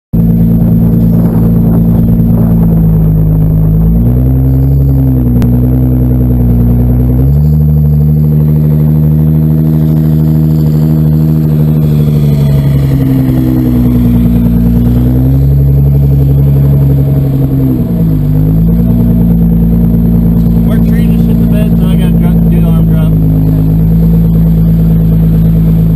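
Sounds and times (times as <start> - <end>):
car engine idling: 0.2 - 25.9.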